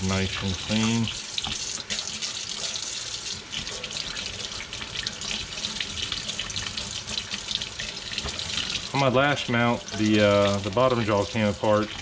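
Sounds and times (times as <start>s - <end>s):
faucet running into a sink: 0.0s - 12.0s.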